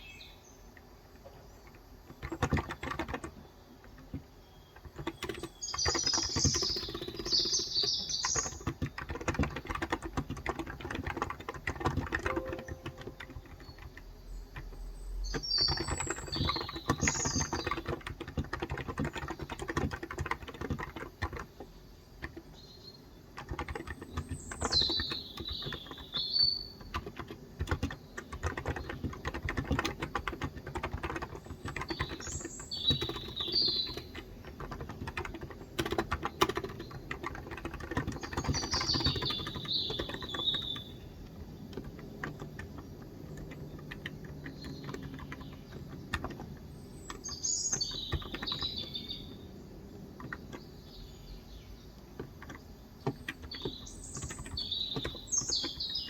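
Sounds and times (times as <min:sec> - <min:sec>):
birds chirping: 0:00.0 - 0:56.0
keyboard typing: 0:00.8 - 0:22.6, 0:23.3 - 0:51.1, 0:52.0 - 0:56.0.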